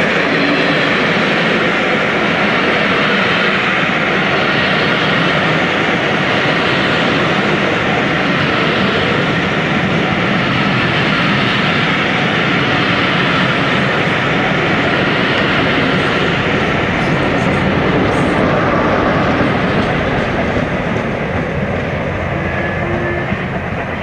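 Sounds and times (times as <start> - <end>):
train wheels rolling on rails: 0.0 - 24.0.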